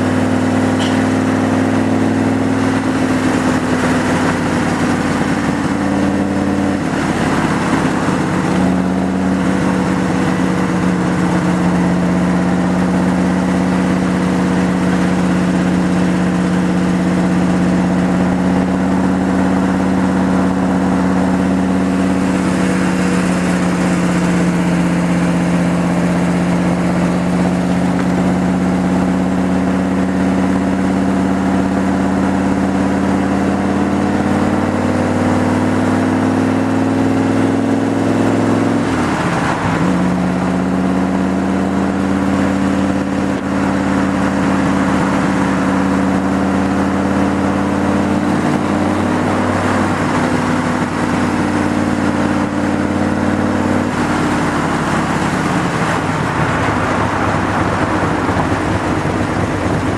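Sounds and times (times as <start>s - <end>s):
car engine running: 0.0s - 59.9s
wind and road noise: 0.0s - 59.9s.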